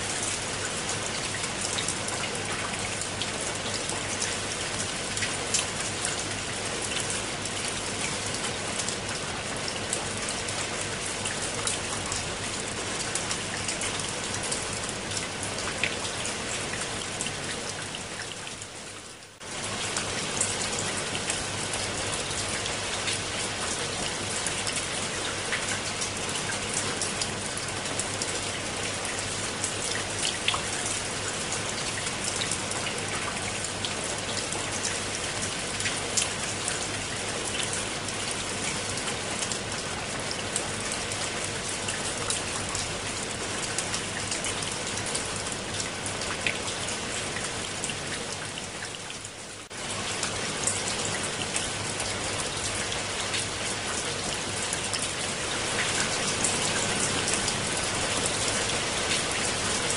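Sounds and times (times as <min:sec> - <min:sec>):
rain on leaves and stone: 0:00.0 - 0:59.9.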